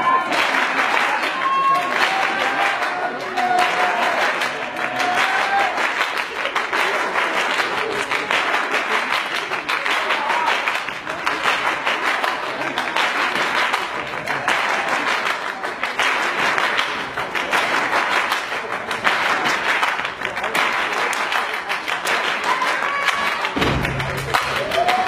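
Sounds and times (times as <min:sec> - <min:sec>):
crowd applause: 0:00.0 - 0:25.0.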